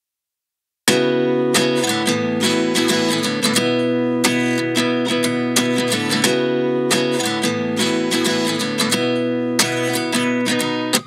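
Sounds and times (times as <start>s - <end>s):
acoustic guitar strumming: 0.9s - 11.0s.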